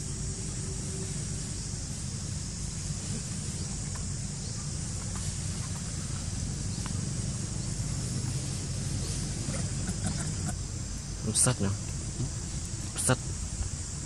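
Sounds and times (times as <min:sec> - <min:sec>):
high even hiss: 0:00.0 - 0:14.0.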